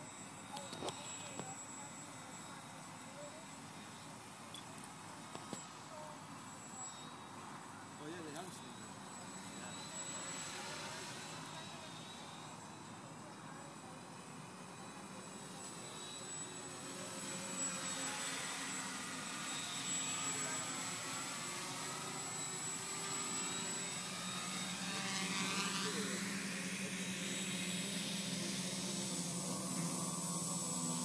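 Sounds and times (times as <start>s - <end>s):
drone motors and propellers whirring: 0.0s - 31.0s.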